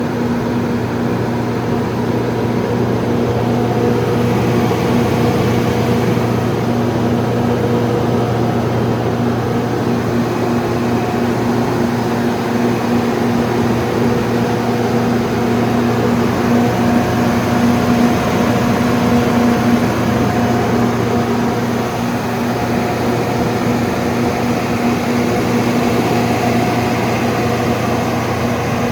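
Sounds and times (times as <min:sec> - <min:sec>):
generator engine humming: 0:00.0 - 0:28.9.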